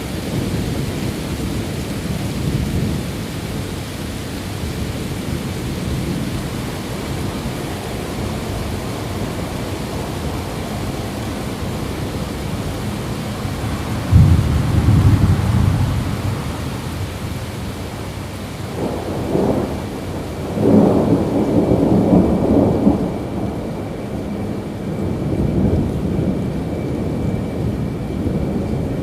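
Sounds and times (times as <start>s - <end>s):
steady rainfall: 0.0s - 29.0s
rolling thunder: 4.6s - 29.0s.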